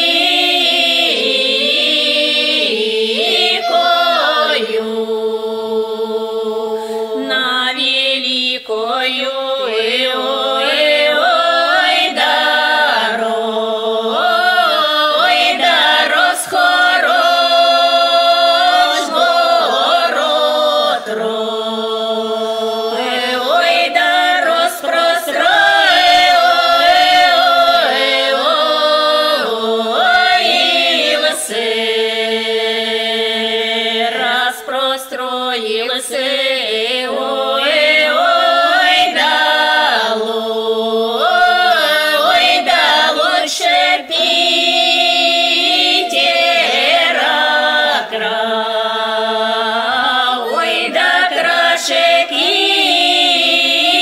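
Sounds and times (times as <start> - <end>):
women's choir singing: 0.0 - 54.0.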